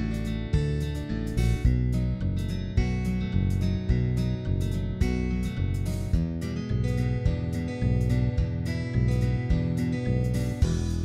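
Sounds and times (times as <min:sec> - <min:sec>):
instrumental music with strummed chords: 0:00.0 - 0:11.0.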